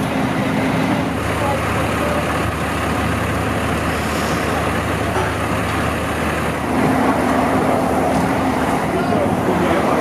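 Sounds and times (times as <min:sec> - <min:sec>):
heavy vehicle engine idling: 0:00.0 - 0:10.0
street traffic: 0:00.0 - 0:10.0.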